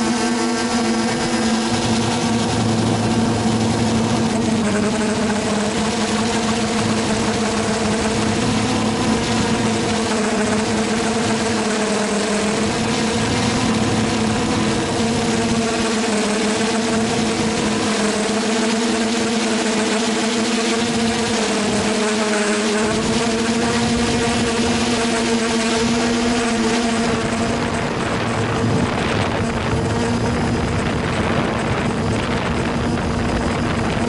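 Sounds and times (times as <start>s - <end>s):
quadcopter motors humming: 0.0s - 34.0s.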